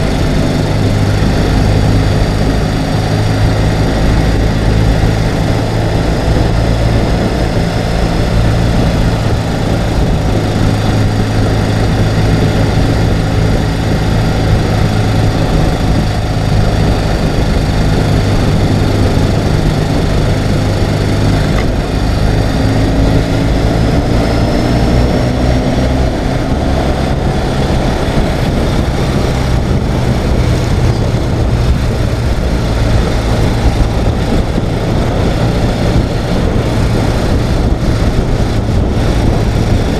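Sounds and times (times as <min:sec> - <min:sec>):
motorcycle engine running: 0:00.0 - 0:39.9
rush of noise: 0:00.0 - 0:39.9.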